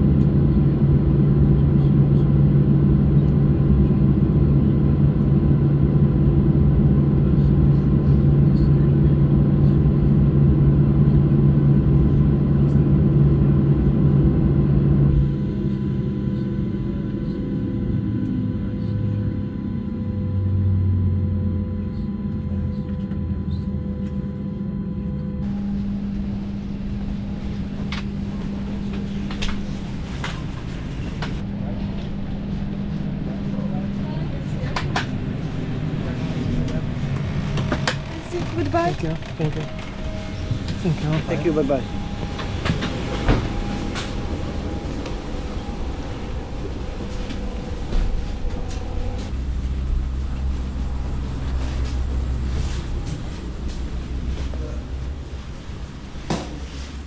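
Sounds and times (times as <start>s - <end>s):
aircraft cabin engine rumble: 0.0s - 57.0s
faint engine whine: 0.0s - 57.0s.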